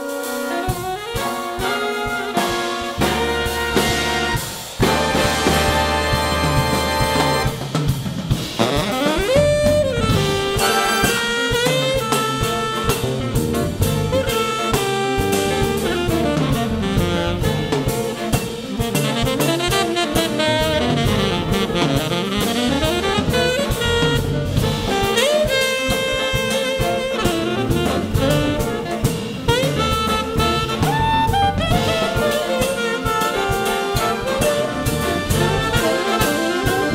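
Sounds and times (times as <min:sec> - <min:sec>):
saxophone section: 0:00.0 - 0:07.9, 0:08.5 - 0:36.9
brass section: 0:00.0 - 0:36.9
drum kit and cymbals: 0:00.0 - 0:36.9.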